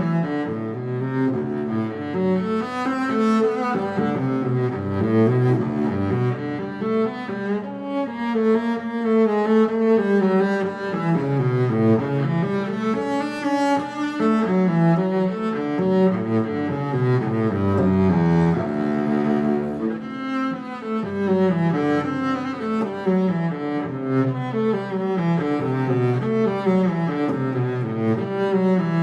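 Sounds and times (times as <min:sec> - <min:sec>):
low bowed strings melody: 0:00.0 - 0:29.0.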